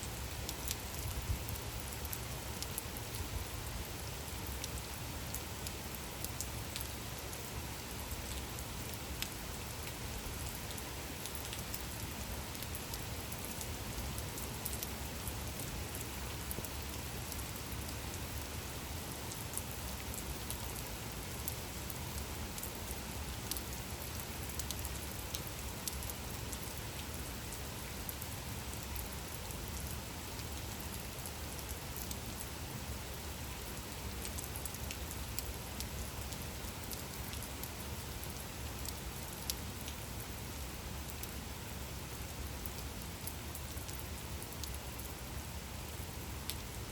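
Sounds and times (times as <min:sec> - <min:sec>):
gentle rain falling: 0:00.0 - 0:46.9.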